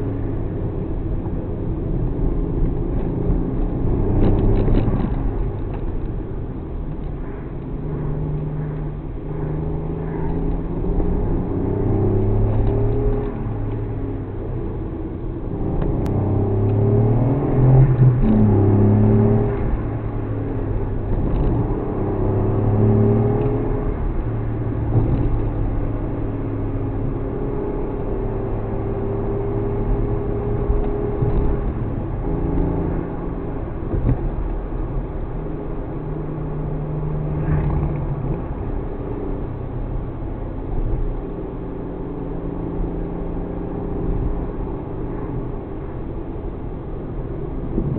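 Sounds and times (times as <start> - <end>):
car engine accelerating: 0.0 - 47.9.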